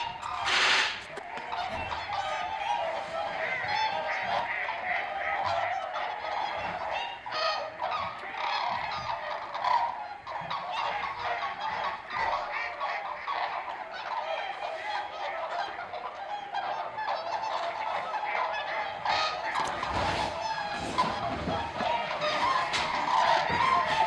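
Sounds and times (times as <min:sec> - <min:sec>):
flock of wild birds calling: 0:00.0 - 0:24.0.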